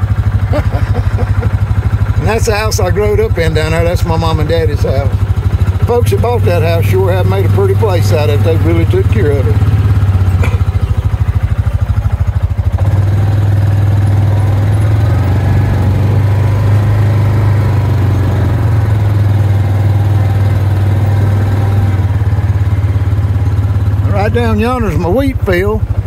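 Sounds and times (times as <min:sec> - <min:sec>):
utility vehicle engine running: 0:00.0 - 0:26.0.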